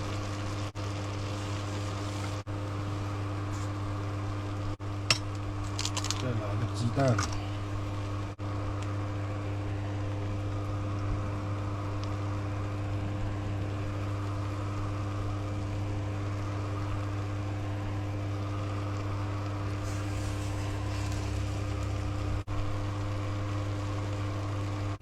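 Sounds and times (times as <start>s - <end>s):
electric fan motor hum: 0.0s - 25.0s.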